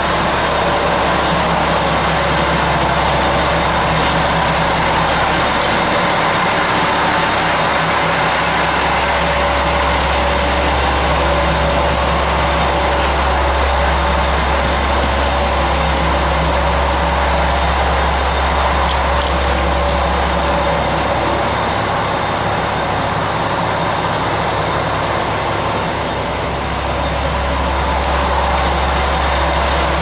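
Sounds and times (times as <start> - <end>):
diesel railcar engine idling: 0.0 - 30.0.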